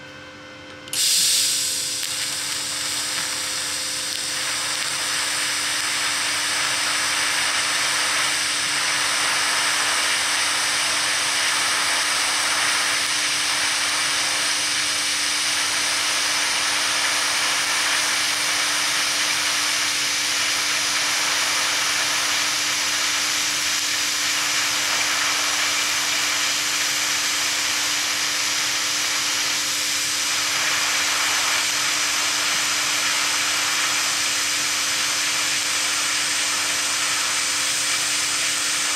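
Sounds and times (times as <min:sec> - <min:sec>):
welder arc hissing: 0:00.9 - 0:38.9.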